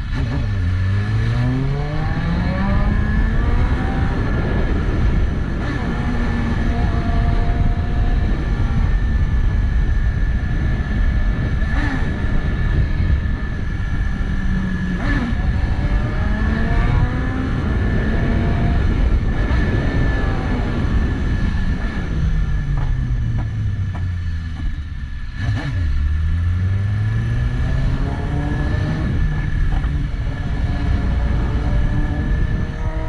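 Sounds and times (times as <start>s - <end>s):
dense low rumble: 0.0s - 33.0s
motorcycle engine revving: 0.0s - 33.0s.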